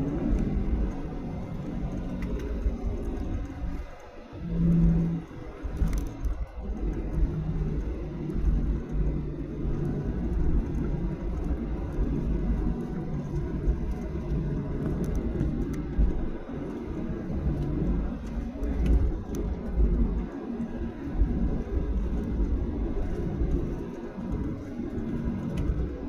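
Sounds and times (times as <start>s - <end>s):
airliner cabin rumble: 0.0s - 26.0s
faint hum: 0.0s - 26.0s.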